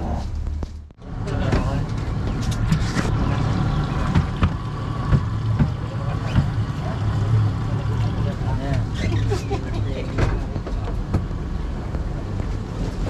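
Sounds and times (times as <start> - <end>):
outboard motors droning: 1.0 - 13.0.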